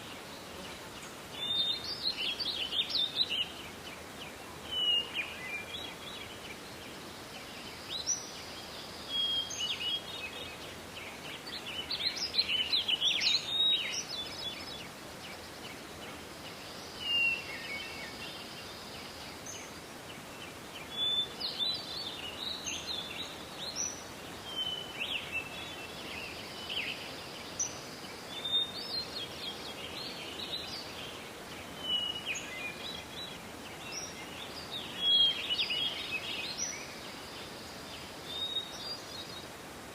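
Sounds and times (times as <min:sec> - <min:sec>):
background hiss: 0:00.0 - 0:39.9
songbirds singing: 0:00.0 - 0:39.9.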